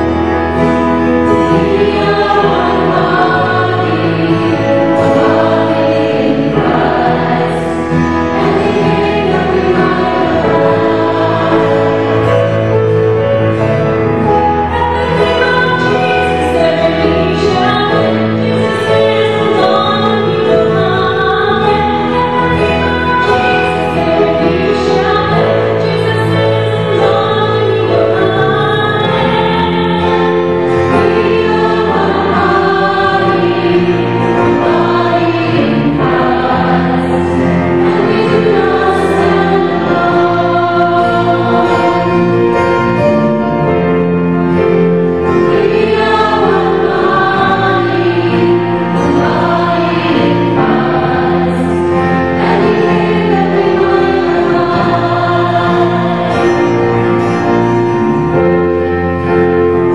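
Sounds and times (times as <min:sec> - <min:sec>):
choir singing sacred music: 0:00.0 - 0:59.9.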